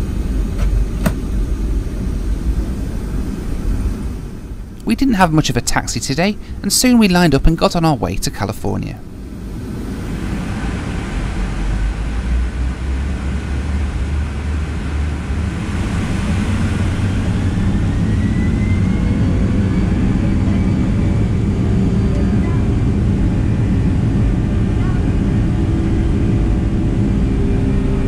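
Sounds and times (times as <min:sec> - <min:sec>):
faint rising whine: 0:00.0 - 0:28.0
jet engines rumbling: 0:00.0 - 0:28.0.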